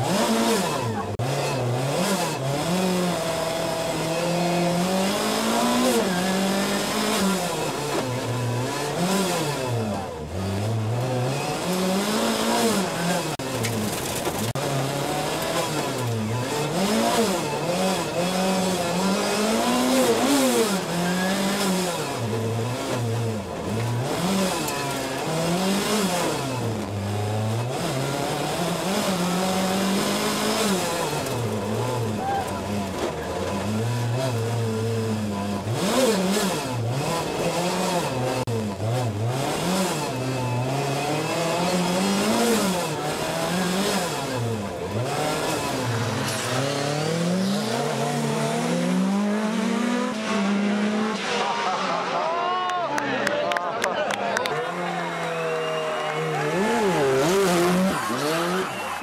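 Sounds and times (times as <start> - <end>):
rally car engine revving: 0.0 - 52.8, 53.8 - 59.0.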